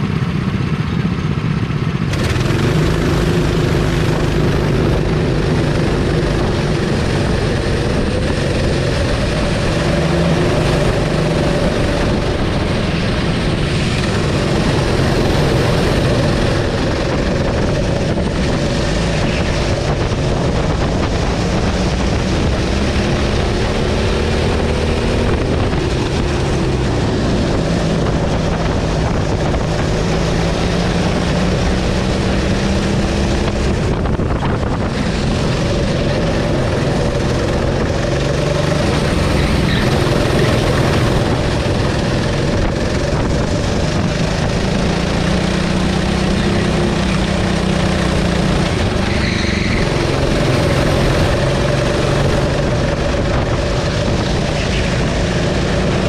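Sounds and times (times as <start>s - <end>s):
racing kart engine revving: 0.0s - 56.0s.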